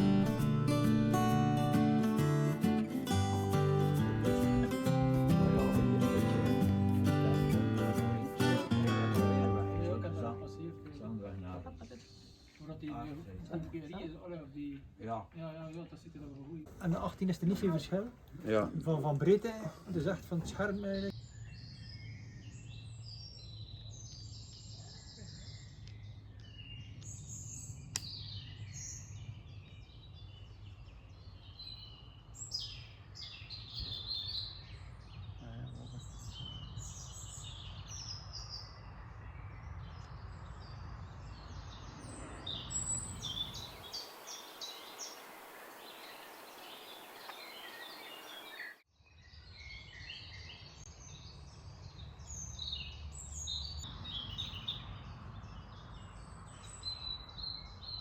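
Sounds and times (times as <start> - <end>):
small birds singing and chirping: 0.0 - 14.8, 16.4 - 58.0.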